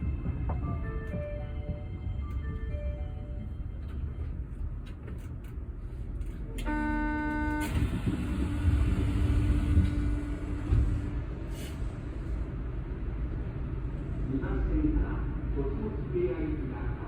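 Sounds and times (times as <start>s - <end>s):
steady train hum: 0.0s - 17.0s
train rumble: 0.0s - 17.0s.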